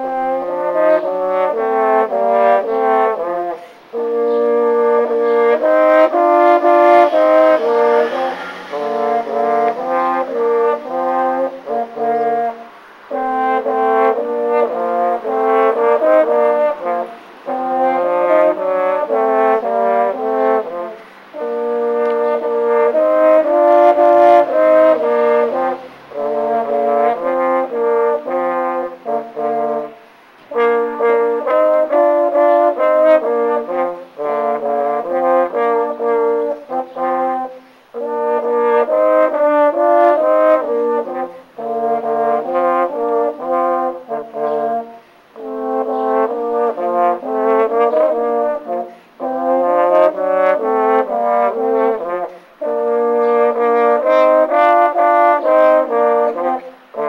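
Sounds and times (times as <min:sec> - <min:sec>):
french horns duet: 0:00.0 - 0:57.0.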